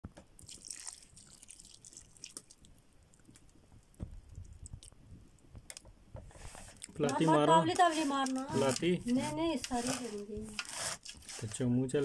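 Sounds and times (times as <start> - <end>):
liquid crackling on food: 0.1 - 12.0.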